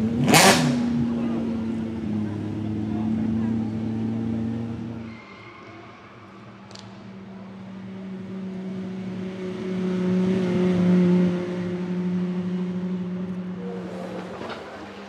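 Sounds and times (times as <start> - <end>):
sports car driving past: 0.0 - 15.0.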